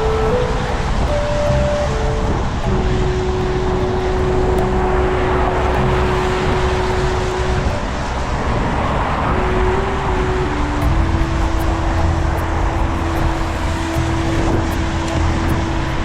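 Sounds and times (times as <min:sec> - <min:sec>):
city traffic on wet streets: 0:00.0 - 0:16.0
held tone shifting pitch: 0:00.0 - 0:16.0
rain: 0:00.0 - 0:16.0.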